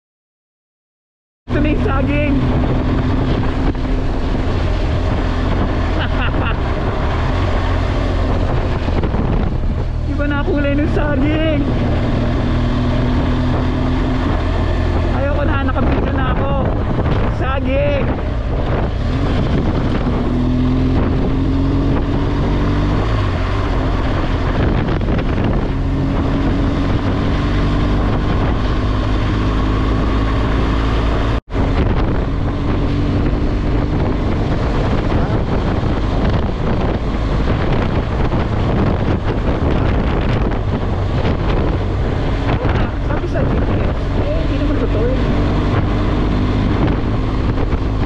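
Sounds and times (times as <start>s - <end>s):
motorcycle engine running: 1.5s - 48.0s
wind buffeting microphone: 1.5s - 48.0s.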